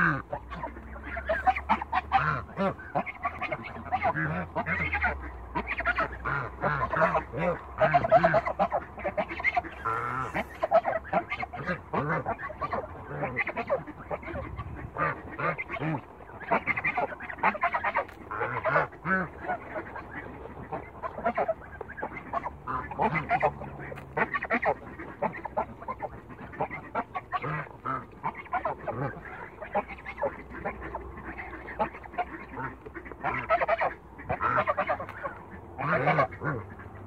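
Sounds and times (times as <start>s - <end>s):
geese honking: 0.0s - 37.0s.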